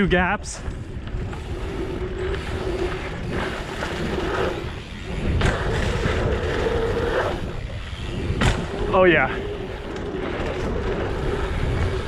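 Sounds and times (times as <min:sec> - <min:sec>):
bike tyre noise: 0:00.0 - 0:12.0
wind on microphone: 0:00.0 - 0:12.0.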